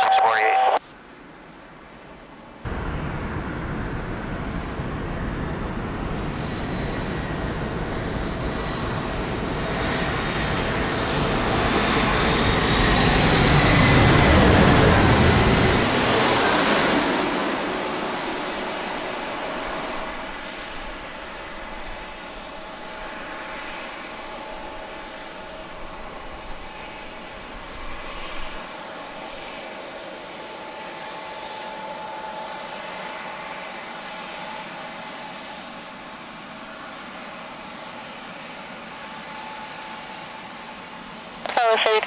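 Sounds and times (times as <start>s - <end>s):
jet airliner passing overhead: 0.0s - 42.0s.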